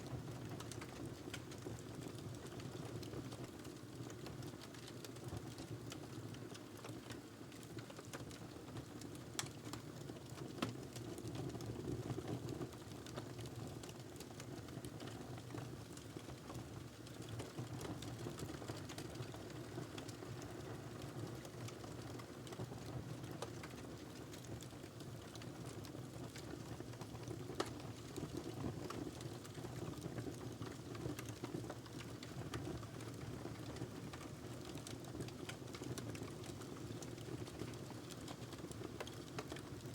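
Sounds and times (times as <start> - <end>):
wood fire crackling: 0.2 - 11.0, 12.7 - 39.9.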